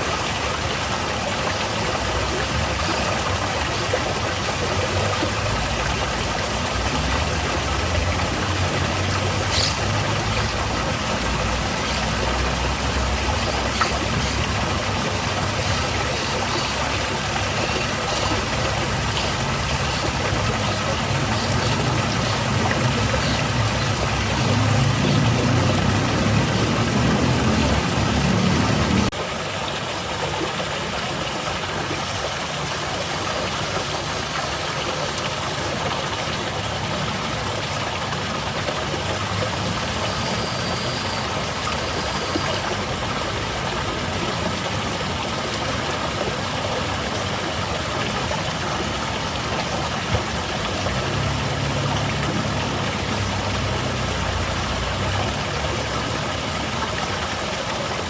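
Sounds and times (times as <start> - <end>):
water splashing down a cascade: 0.0 - 58.0.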